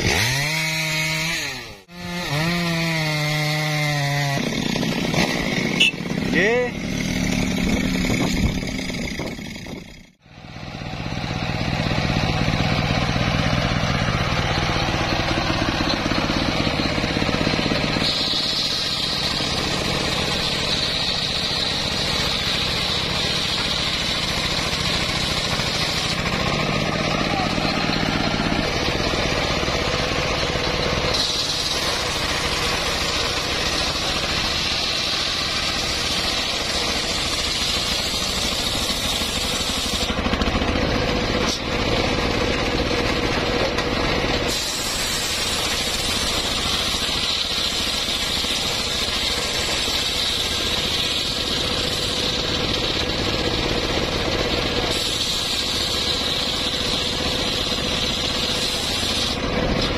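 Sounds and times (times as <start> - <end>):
engine running: 0.0 - 59.9
saw blade cutting wood: 0.0 - 59.9.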